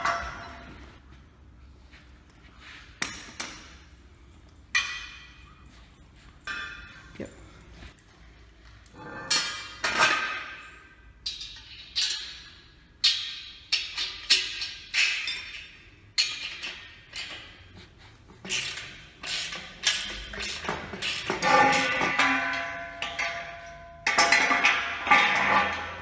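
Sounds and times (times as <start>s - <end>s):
metal clinks and knocks: 0.0s - 1.2s, 1.8s - 26.0s.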